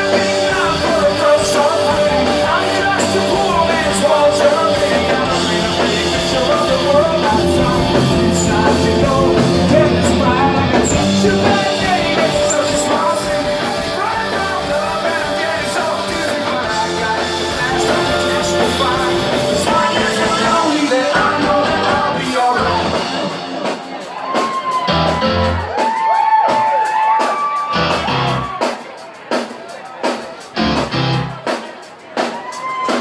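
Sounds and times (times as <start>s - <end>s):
rock band playing live: 0.0s - 33.0s.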